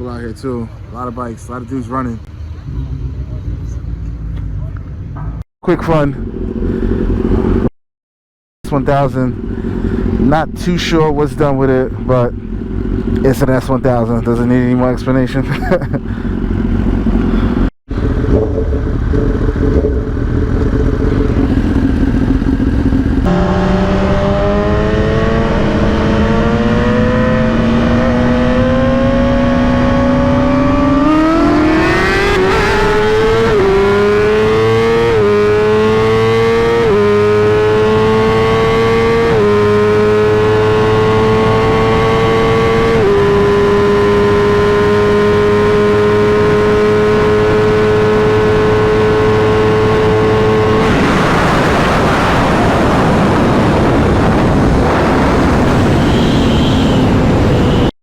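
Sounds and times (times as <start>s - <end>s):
motorcycle engine accelerating: 1.9s - 7.7s, 9.0s - 57.9s.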